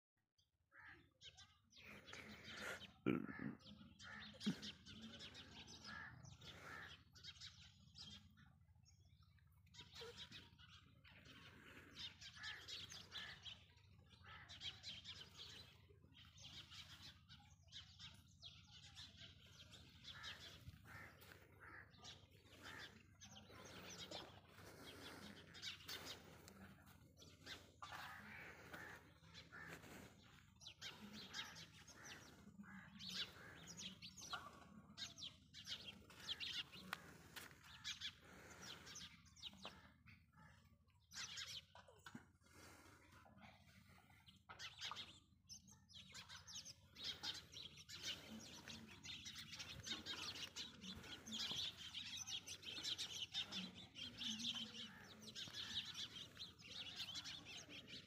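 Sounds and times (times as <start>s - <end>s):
birds chirping: 0.8s - 58.0s.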